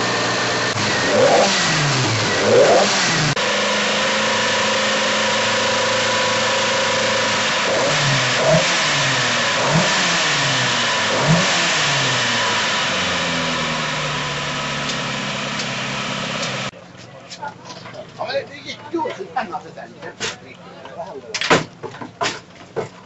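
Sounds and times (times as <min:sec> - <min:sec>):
car engine idling and revving: 0:00.0 - 0:19.2.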